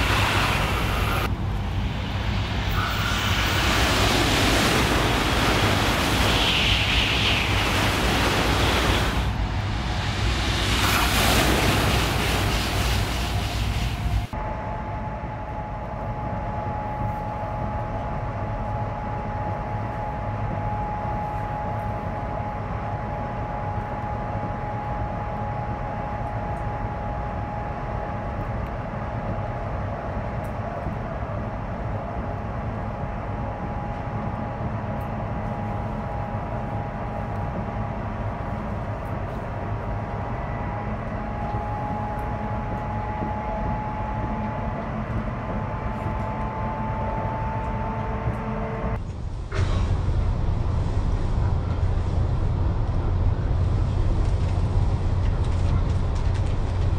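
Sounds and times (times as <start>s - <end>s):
steady high whine: 0.0s - 56.9s
train wheels and air rumbling: 0.0s - 56.9s.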